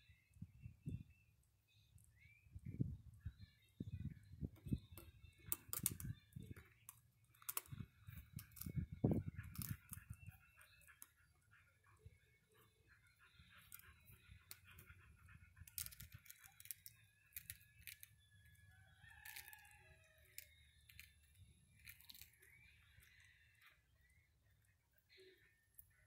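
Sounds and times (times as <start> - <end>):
eggshell crackling and clicking: 1.7 - 26.0.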